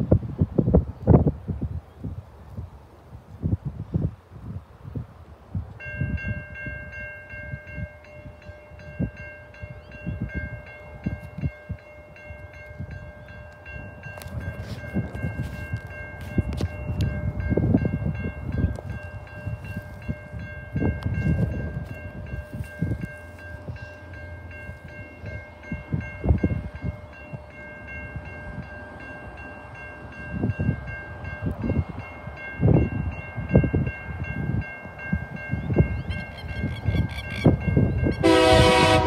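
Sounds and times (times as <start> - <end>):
wind buffeting microphone: 0.0 - 39.0
diesel train rumble: 5.1 - 39.0.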